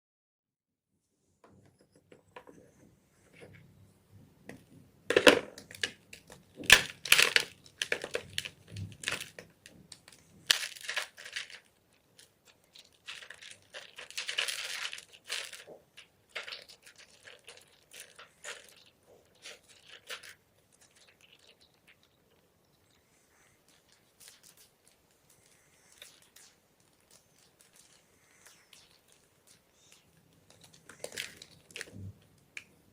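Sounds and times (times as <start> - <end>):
chalk crunching and crackling: 5.7 - 32.7.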